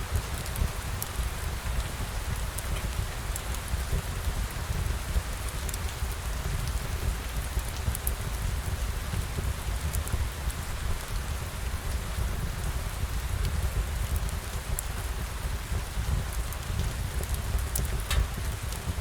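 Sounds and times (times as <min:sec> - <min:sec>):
steady rain: 0:00.0 - 0:19.0
ticks of raindrops: 0:00.0 - 0:19.0.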